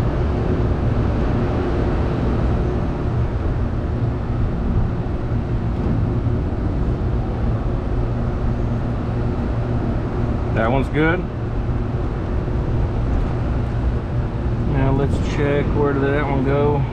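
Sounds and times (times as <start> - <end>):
air handling unit droning: 0.0 - 16.9.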